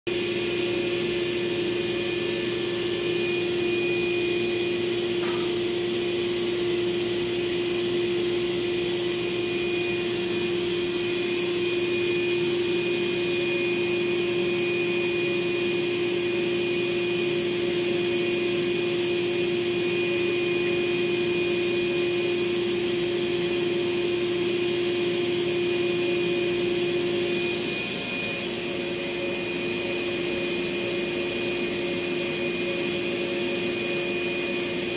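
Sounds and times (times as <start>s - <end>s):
shop vacuum running: 0.1s - 34.9s.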